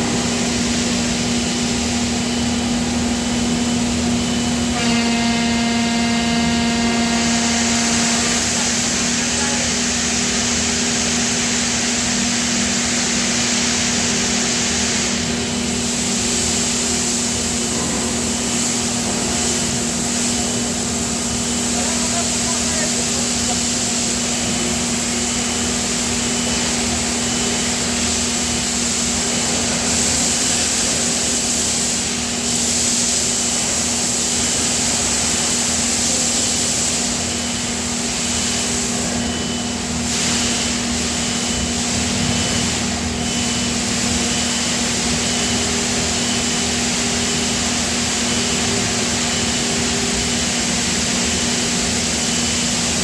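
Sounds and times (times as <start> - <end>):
industrial machinery hum: 0.0 - 53.0
machinery hiss: 0.0 - 53.0.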